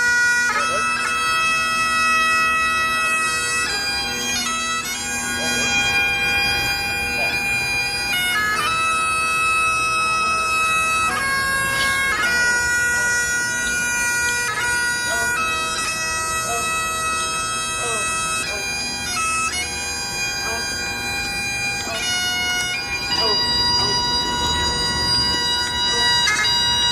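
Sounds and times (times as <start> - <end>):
bagpipe drones: 0.0 - 26.9
bagpipes playing slow melody: 0.0 - 26.9.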